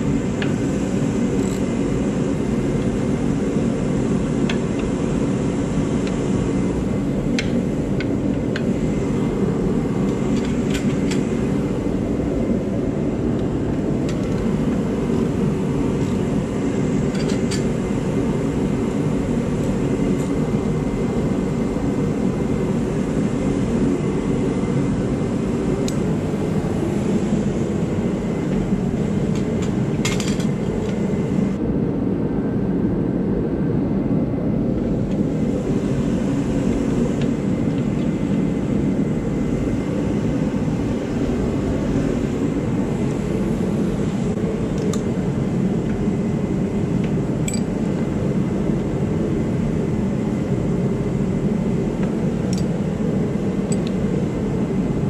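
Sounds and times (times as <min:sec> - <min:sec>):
low machinery roar: 0:00.0 - 0:55.0.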